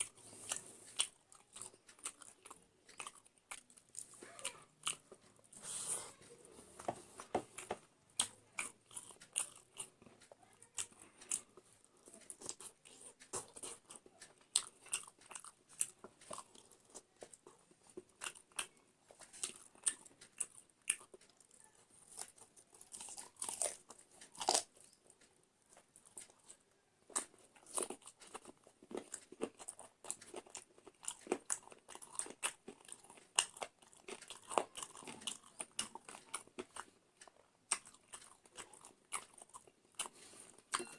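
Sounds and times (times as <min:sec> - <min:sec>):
person chewing and crunching food: 0:00.0 - 0:40.9.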